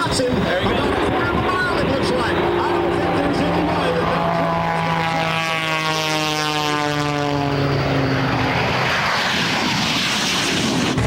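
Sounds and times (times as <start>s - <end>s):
broad rushing roar: 0.0s - 11.0s
propeller plane engine droning: 0.0s - 11.0s.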